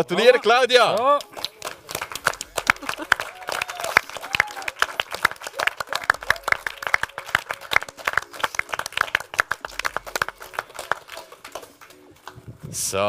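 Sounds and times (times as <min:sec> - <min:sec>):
people applauding: 0:00.7 - 0:12.4.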